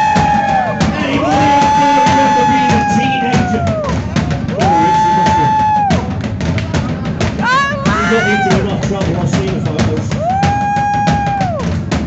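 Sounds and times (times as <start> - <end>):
rock and roll band playing: 0.0 - 12.0.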